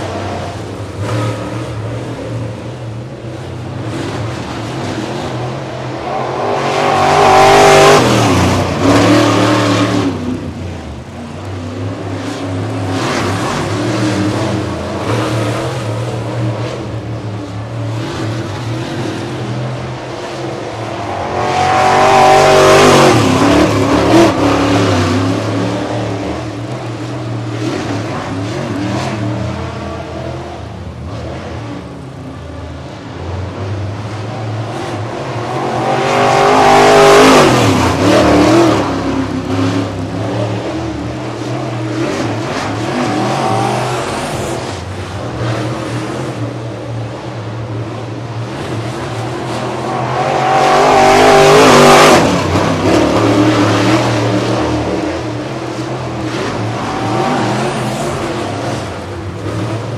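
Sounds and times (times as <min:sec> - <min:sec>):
racecar engine running hard: 0:00.0 - 0:59.9.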